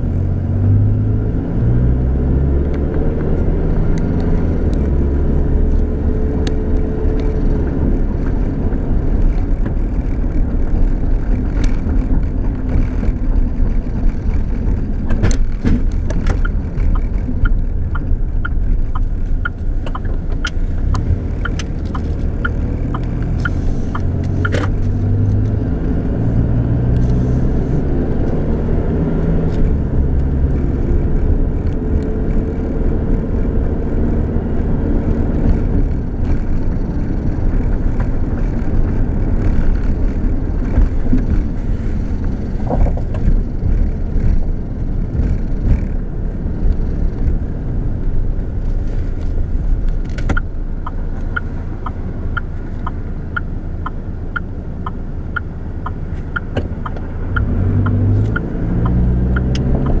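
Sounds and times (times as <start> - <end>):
engine and road noise rumble: 0.0 - 60.0
turn signal ticking: 2.7 - 60.0.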